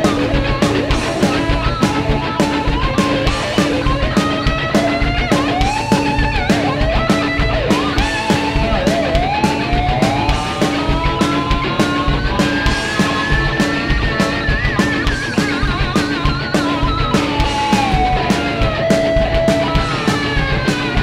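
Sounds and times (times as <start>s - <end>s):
bass: 0.0s - 21.0s
drums steady beat: 0.0s - 21.0s.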